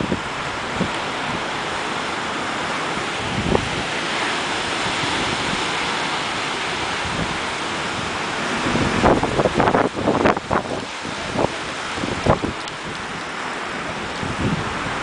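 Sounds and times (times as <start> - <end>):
strong wind rushing hiss: 0.0 - 15.0
wind buffeting microphone: 0.0 - 15.0.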